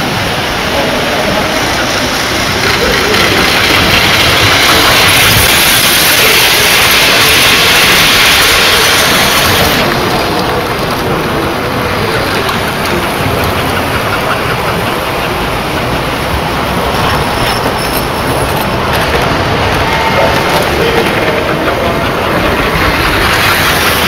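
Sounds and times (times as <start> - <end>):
model train wheels rumbling on rail: 0.0 - 24.0.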